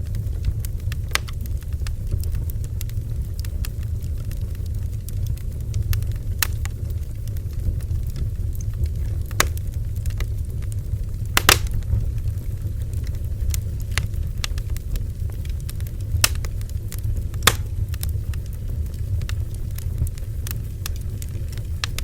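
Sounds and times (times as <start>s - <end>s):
bonfire flames rumbling: 0.0s - 22.0s
burning wood crackling and popping: 0.0s - 22.0s.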